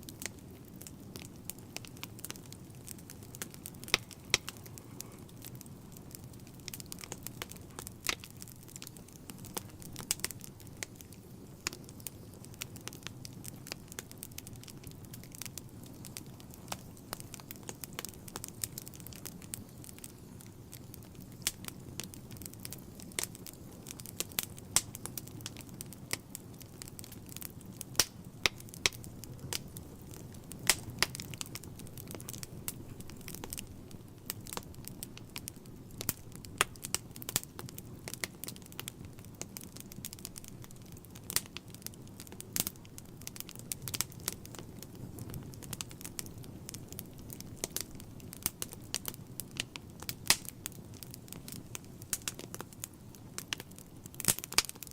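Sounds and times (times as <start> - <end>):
low fire rumble: 0.0 - 54.9
wood fire crackling and popping: 0.0 - 54.9.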